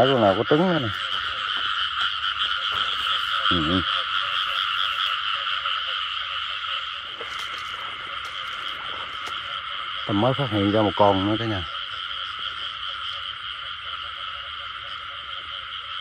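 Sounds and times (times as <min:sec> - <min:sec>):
frogs croaking in chorus: 0:00.0 - 0:16.0.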